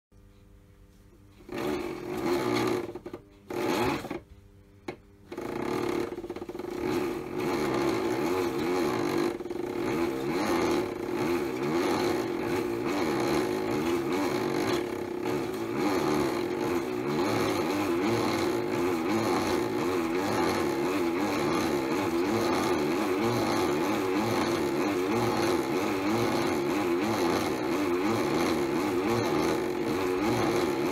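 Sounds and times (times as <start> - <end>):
small electric motor whining: 1.4 - 4.2, 5.3 - 30.9.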